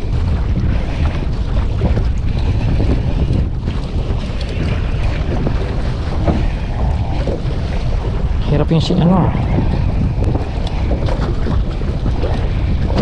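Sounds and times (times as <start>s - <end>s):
water washing around boat: 0.0s - 13.0s
wind buffeting microphone: 0.0s - 13.0s.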